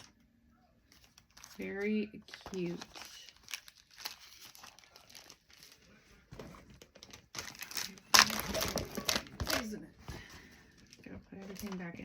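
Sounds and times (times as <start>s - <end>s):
packaging crinkling and rustling: 0.9s - 12.0s.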